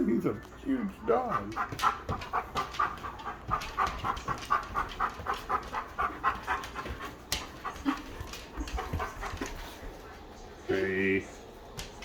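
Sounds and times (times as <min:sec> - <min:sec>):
dog panting: 0:00.0 - 0:10.7.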